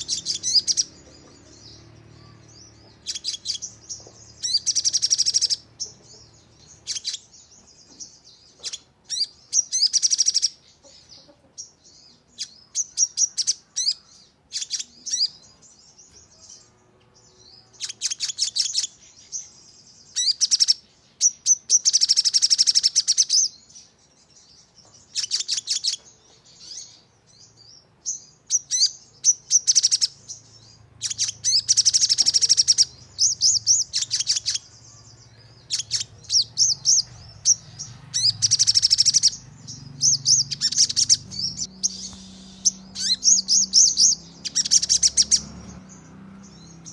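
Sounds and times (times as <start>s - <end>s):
single bird chirps: 0.0s - 19.5s, 25.0s - 45.9s
songbird singing rapid bursts: 0.0s - 46.9s.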